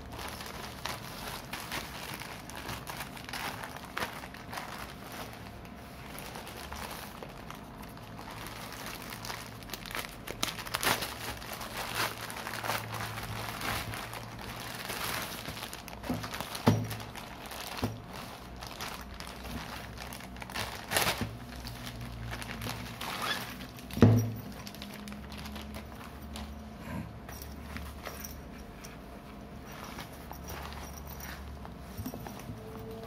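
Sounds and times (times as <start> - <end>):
plastic bag crinkling: 0.0 - 26.8.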